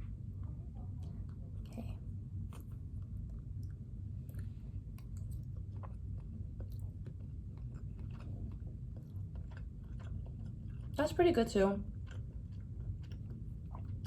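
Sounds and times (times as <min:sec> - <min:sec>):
low room hum: 0:00.0 - 0:14.0
chewing noodles: 0:02.4 - 0:14.0.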